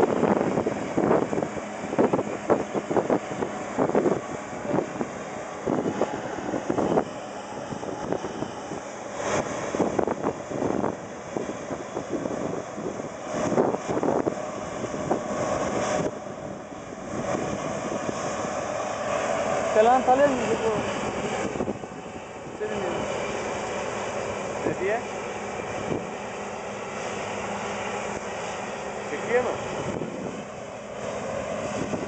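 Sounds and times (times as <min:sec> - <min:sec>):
wind gusts on microphone: 0:00.0 - 0:32.0.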